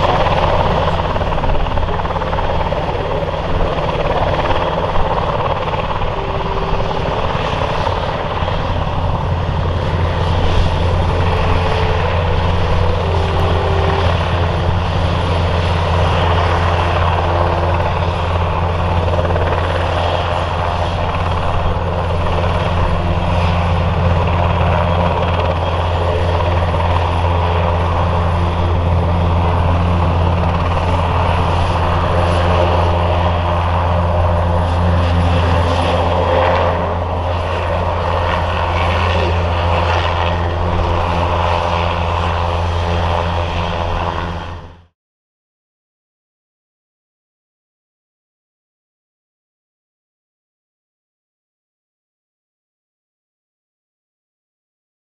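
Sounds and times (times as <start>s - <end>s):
helicopter turbine whine and rotors: 0.0s - 45.0s.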